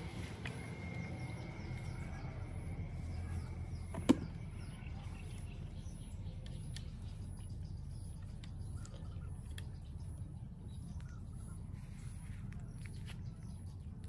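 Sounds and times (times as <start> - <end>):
low outdoor background hum: 0.0 - 14.0.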